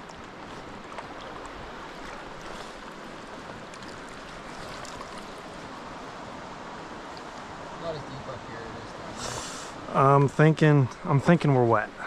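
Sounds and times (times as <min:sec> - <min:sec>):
stream water flowing over rocks: 0:00.0 - 0:12.0.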